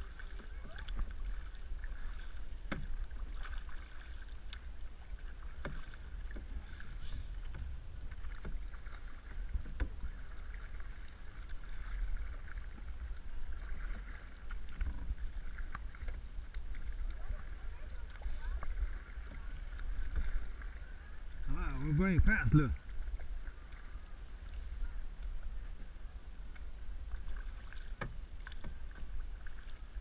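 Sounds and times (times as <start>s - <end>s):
paddle splashing in water: 0.0s - 30.0s
paddle knocking against hull: 0.1s - 23.9s, 27.1s - 29.8s.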